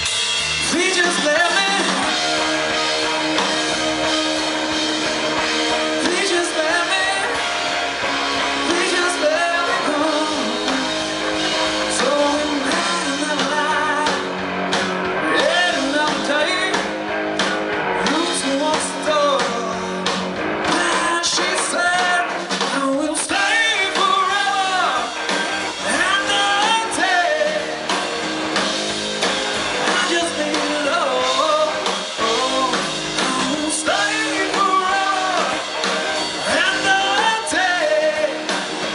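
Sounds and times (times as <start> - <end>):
rock band playing: 0.0 - 38.9
lead singer singing: 0.6 - 14.4, 15.0 - 17.0, 18.0 - 28.1, 29.6 - 38.9.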